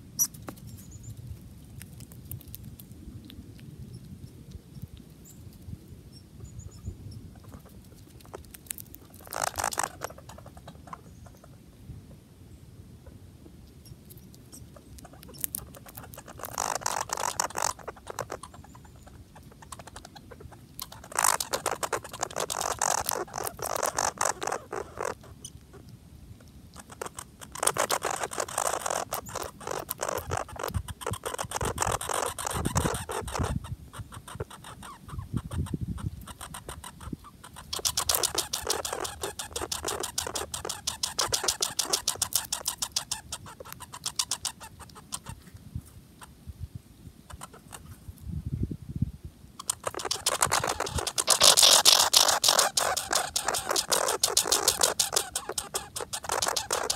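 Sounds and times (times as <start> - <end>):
squirrel chewing seeds: 0.2 - 11.6, 13.6 - 45.5, 47.3 - 47.9, 49.6 - 56.9.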